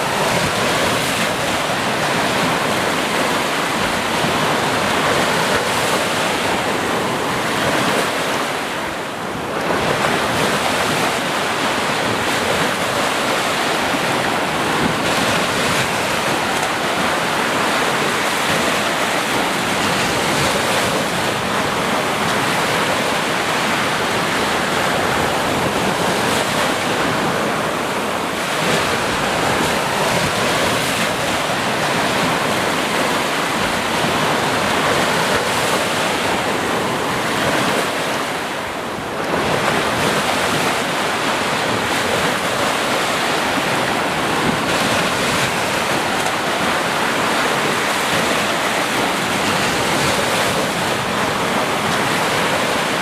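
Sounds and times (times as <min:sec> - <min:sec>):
waves washing on shore: 0:00.0 - 0:53.0.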